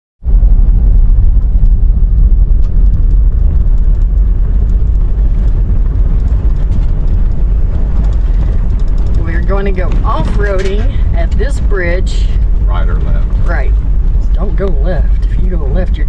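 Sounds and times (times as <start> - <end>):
vehicle driving rumble: 0.2 - 16.0
faint light rattles: 1.4 - 16.0.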